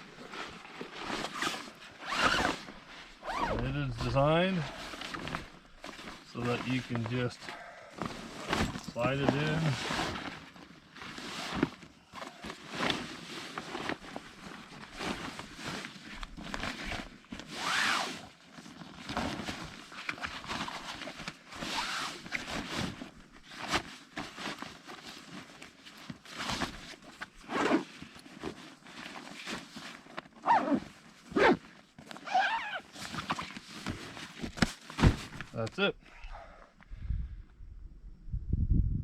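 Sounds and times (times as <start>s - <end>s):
heavy fabric rustling and scraping: 0.0s - 35.9s.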